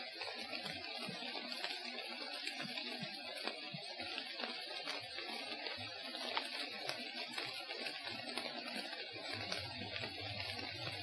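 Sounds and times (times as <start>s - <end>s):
small ticks and crackles: 0.0s - 11.0s
light rain hissing: 0.3s - 11.0s.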